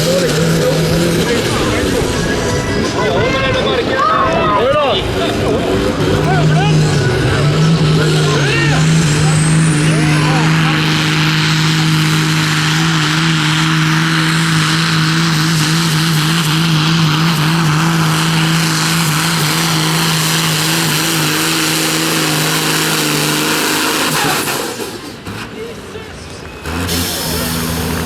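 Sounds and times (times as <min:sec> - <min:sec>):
tractor engine at full throttle: 0:00.0 - 0:28.0.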